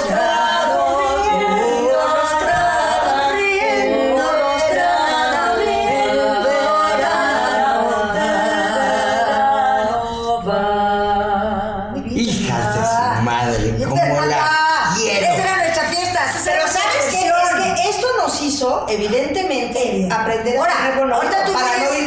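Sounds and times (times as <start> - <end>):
women singing in harmony: 0.0 - 18.2, 20.6 - 22.0.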